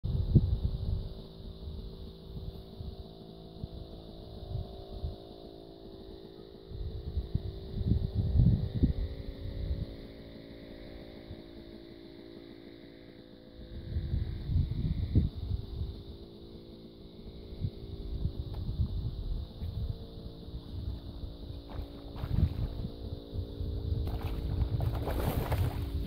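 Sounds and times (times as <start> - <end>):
wind buffeting microphone: 0.0 - 5.4, 6.6 - 11.5, 13.6 - 26.0
steady motor hum: 0.0 - 26.0.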